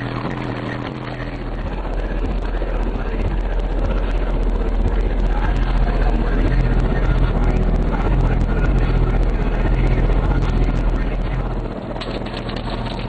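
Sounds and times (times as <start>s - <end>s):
bass-heavy music from subwoofers: 0.0s - 13.0s.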